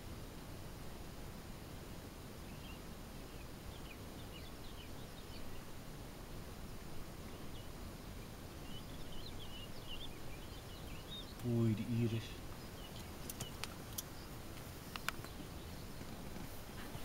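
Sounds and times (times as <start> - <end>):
low outdoor background noise: 0.0 - 17.0
small birds twittering: 2.2 - 17.0.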